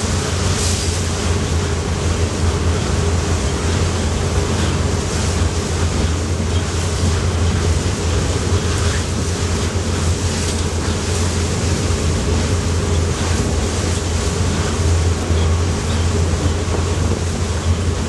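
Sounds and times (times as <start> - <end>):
low engine drone: 0.0 - 18.0
rush of wind and water: 0.0 - 18.0.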